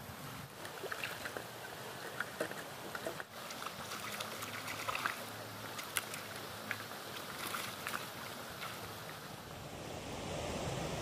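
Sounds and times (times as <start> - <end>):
running water: 0.0 - 11.0
small water splashes: 0.5 - 9.4.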